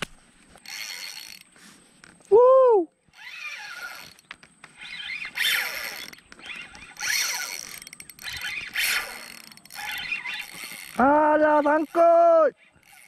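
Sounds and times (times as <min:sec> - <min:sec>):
fishing reel gears whirring: 0:00.5 - 0:01.6, 0:03.0 - 0:13.0.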